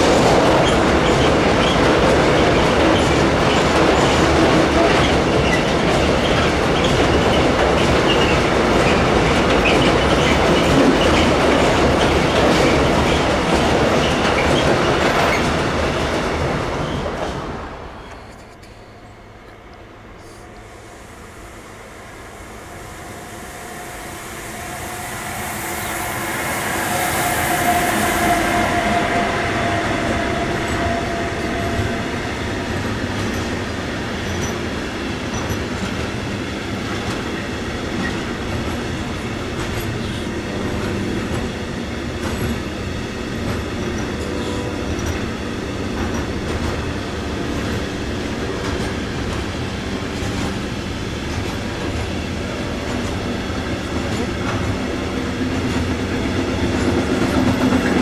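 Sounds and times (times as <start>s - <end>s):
freight train passing: 0.0s - 58.0s
train whine: 0.0s - 58.0s.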